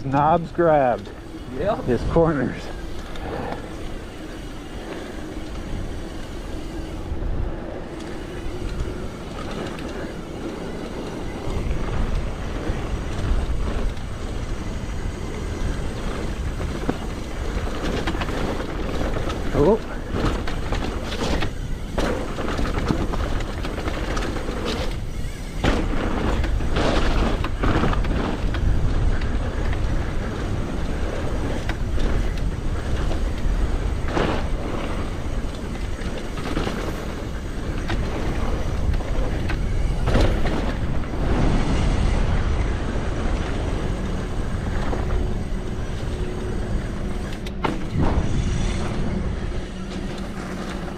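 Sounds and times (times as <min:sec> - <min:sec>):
bike tyres on dirt: 0:00.0 - 0:50.9
wind buffeting microphone: 0:00.7 - 0:50.9
bike knocks and rattles: 0:07.9 - 0:50.9.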